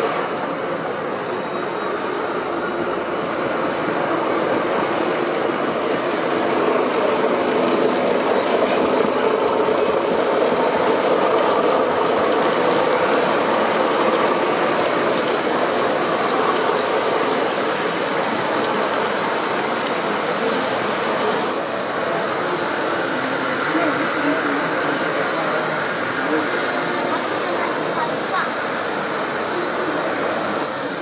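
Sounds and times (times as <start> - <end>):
model train wheels rumbling on rail: 0.0 - 31.0.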